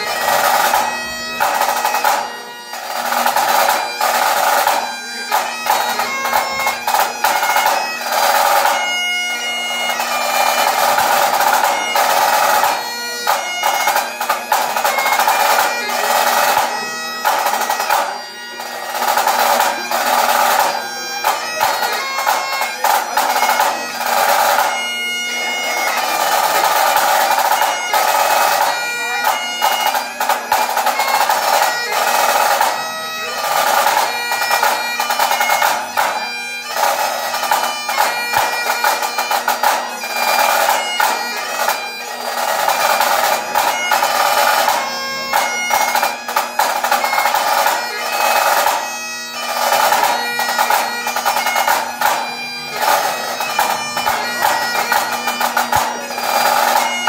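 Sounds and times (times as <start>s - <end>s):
bagpipes playing: 0.0s - 57.0s.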